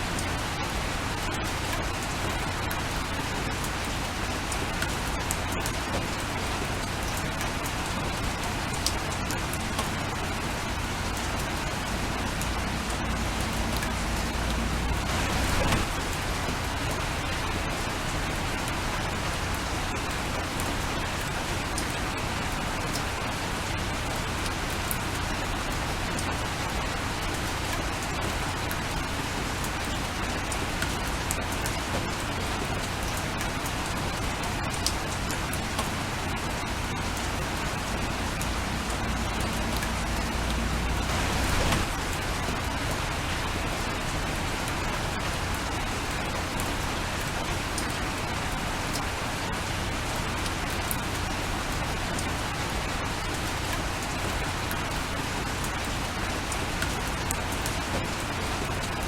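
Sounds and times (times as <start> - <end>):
raindrops ticking on surface: 0.0 - 59.0
steady rain: 0.0 - 59.0.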